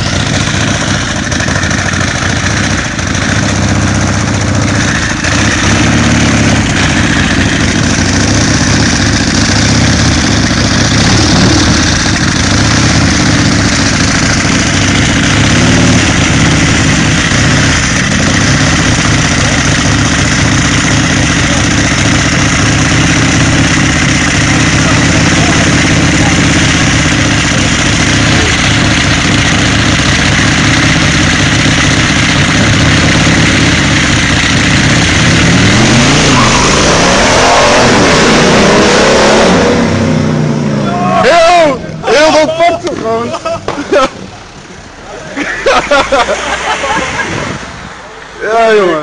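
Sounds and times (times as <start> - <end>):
motorcycle engine running: 0.0 - 45.4.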